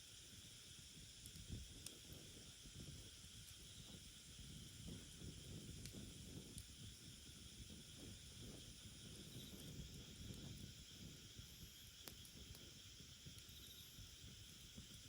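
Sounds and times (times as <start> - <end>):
outdoor air hiss and rumble: 0.0 - 15.0
wood fire crackle: 0.0 - 15.0.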